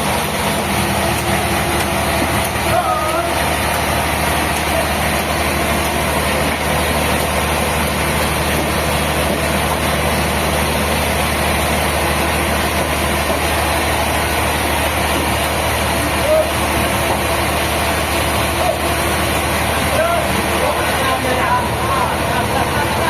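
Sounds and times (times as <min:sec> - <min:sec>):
heavy engine idling: 0:00.0 - 0:23.0.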